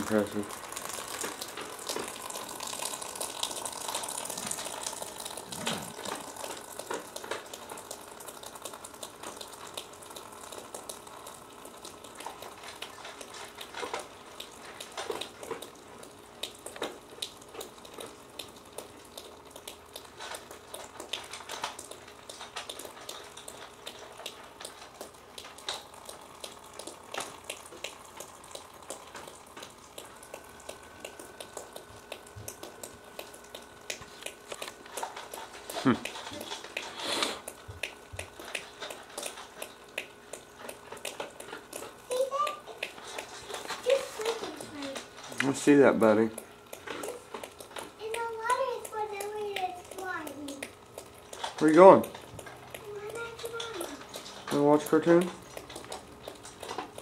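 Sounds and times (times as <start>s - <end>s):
faint hiss of running water: 0.0s - 18.9s, 19.5s - 39.4s, 41.8s - 46.4s, 52.8s - 55.4s
water dripping: 0.0s - 57.0s.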